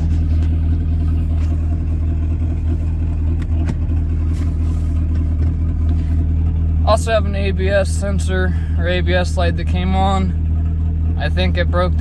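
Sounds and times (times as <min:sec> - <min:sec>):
diesel engine drone inside car: 0:00.0 - 0:12.0.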